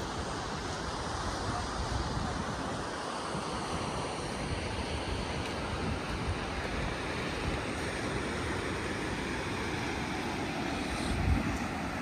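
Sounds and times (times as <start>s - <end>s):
ocean surf breaking: 0.0s - 12.0s
wind noise on microphone: 0.0s - 12.0s.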